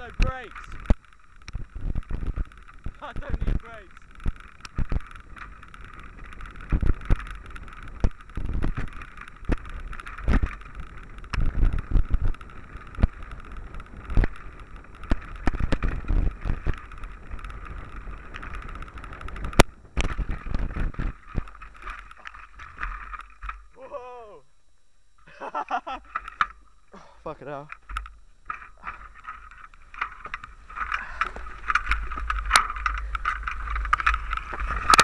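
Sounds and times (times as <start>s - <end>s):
bike knocking and rattling: 0.0s - 23.8s, 25.5s - 35.0s.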